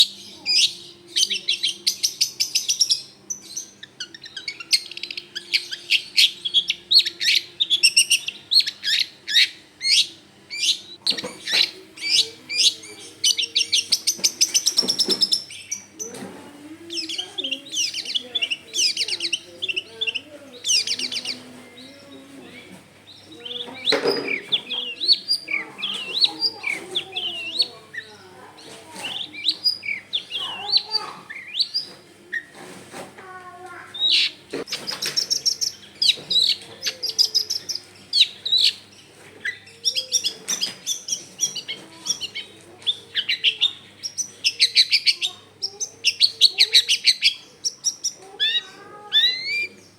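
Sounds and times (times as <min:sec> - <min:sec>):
bird chattering song: 0:00.0 - 0:32.6, 0:33.6 - 0:49.9.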